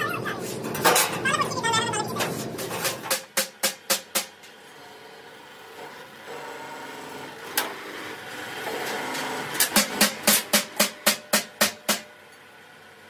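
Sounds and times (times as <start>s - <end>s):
metal-cutting machine rasping: 0.0s - 12.1s.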